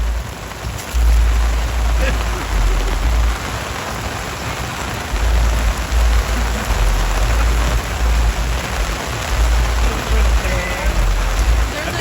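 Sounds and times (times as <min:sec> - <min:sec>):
low rumble: 0:00.0 - 0:03.6, 0:05.0 - 0:11.7
heavy rain: 0:00.0 - 0:12.0.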